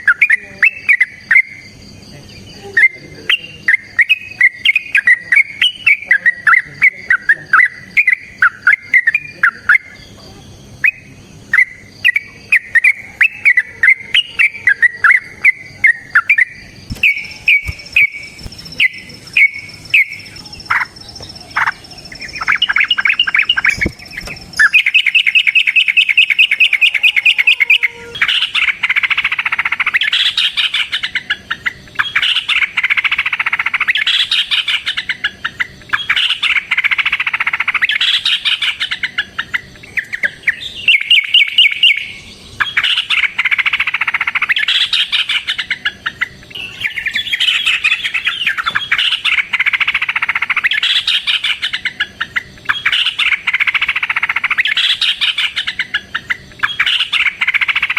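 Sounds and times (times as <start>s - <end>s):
bird singing chattering phrases: 0.0s - 57.9s.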